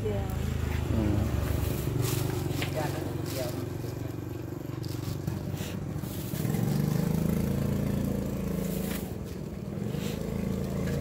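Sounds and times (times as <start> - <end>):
motor vehicle engine running: 0.0 - 11.0.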